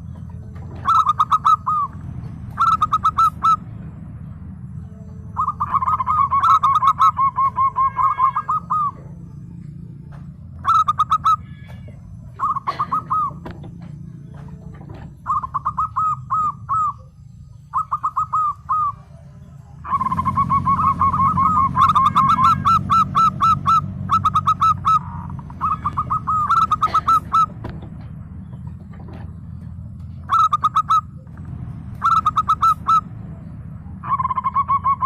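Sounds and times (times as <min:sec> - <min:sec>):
dove staccato cooing: 0:00.0 - 0:35.0
steady low hum: 0:00.0 - 0:35.0.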